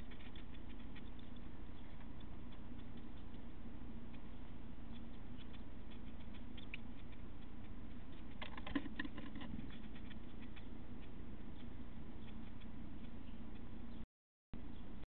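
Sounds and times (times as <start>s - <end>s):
claws and beaks scratching wood: 0.0s - 13.7s
steady low hum: 0.0s - 14.0s, 14.6s - 15.0s.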